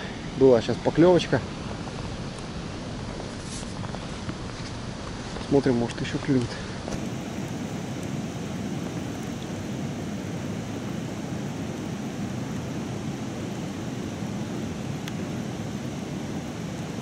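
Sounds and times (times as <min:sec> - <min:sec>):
light rain on a pond: 0:00.0 - 0:17.0.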